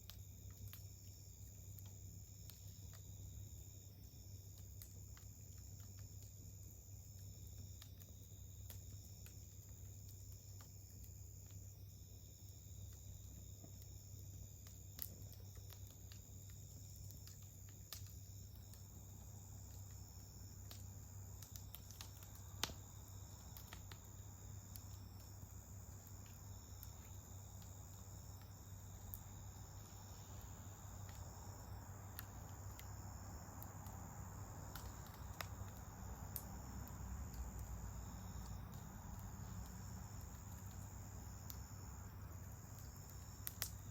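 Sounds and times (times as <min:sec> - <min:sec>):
insects chirring: 0:00.0 - 0:43.9
wood fire popping and crackling: 0:00.0 - 0:43.9.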